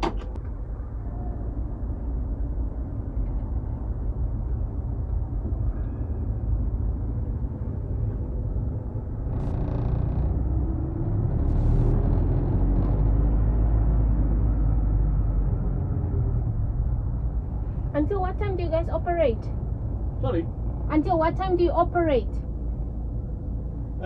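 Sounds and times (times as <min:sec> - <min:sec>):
car cabin engine rumble: 0:00.0 - 0:24.0.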